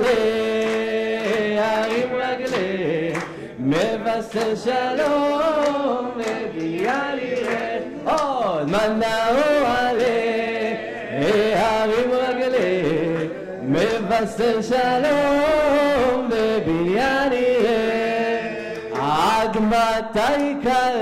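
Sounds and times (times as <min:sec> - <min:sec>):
man singing ornamented hymn: 0:00.0 - 0:21.0
scattered hand claps: 0:00.0 - 0:21.0.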